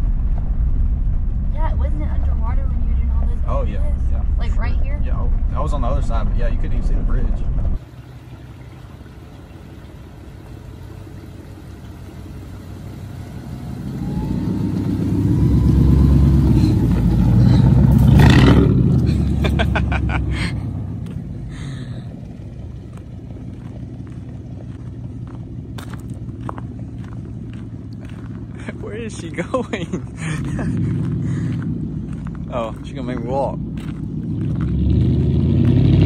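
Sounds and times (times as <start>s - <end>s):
truck exhaust rumbling passing: 0.0s - 36.0s.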